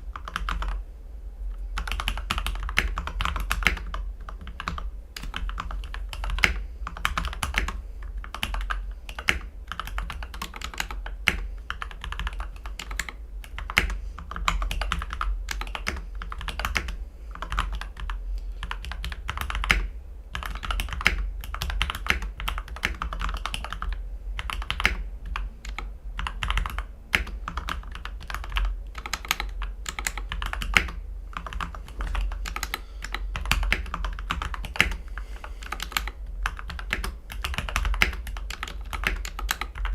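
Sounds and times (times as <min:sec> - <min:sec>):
steady low hum: 0:00.0 - 0:39.9
mechanical keyboard typing: 0:00.1 - 0:00.8, 0:01.8 - 0:39.9.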